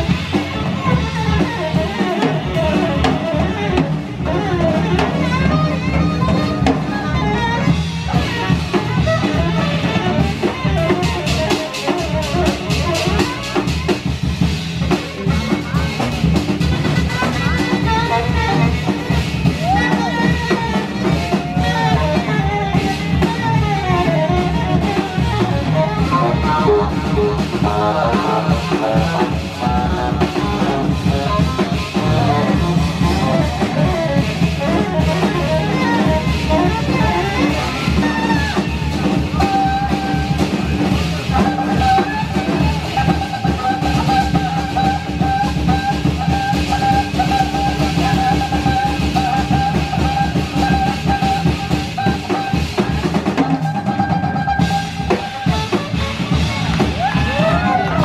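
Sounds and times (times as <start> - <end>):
live jazz band playing: 0.0 - 58.0.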